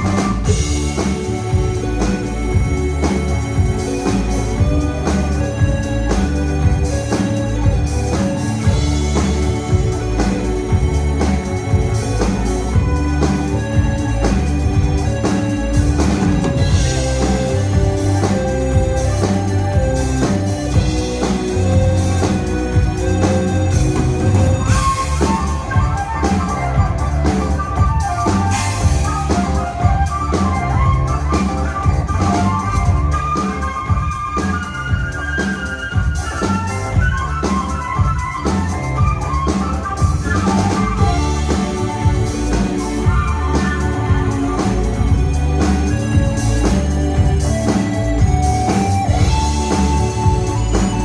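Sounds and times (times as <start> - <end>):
drum kit beat: 0.0 - 51.0
progressive rock music: 0.0 - 51.0.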